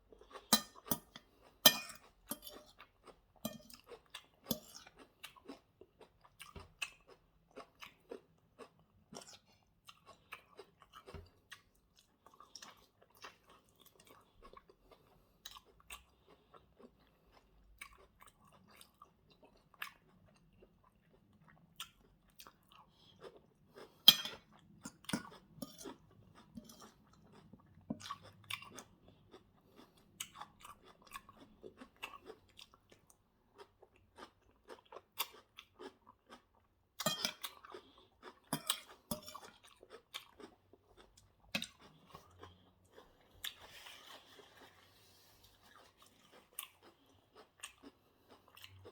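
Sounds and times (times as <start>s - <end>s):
chewing and crunching: 0.0s - 48.9s.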